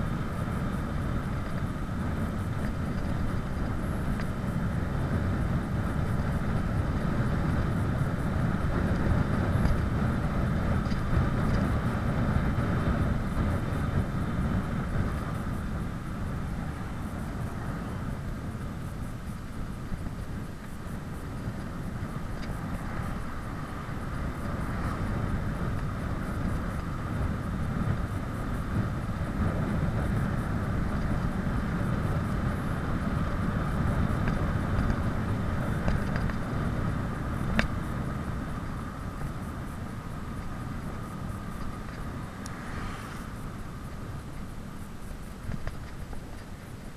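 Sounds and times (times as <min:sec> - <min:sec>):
bicycle road noise: 0:00.0 - 0:46.9
wind rushing over microphone: 0:00.0 - 0:46.9.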